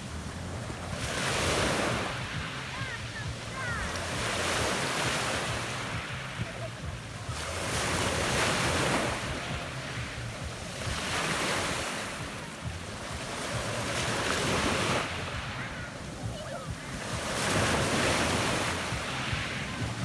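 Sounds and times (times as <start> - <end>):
waves washing over pebbles: 0.0 - 20.0.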